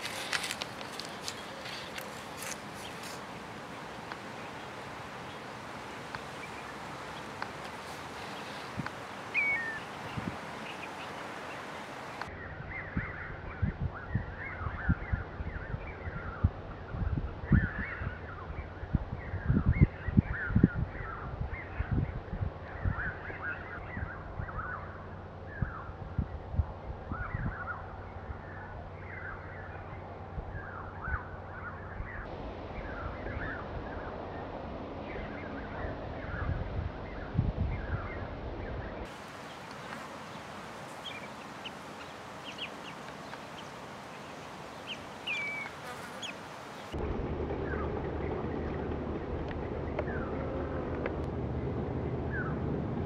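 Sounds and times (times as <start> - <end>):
small birds twittering: 0.0 - 26.0, 27.0 - 47.0, 49.9 - 50.4
wind buffeting microphone: 0.0 - 53.0.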